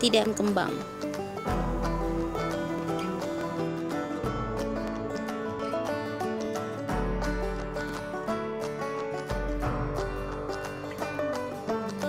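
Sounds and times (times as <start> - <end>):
quick background music tune: 0.0 - 12.0.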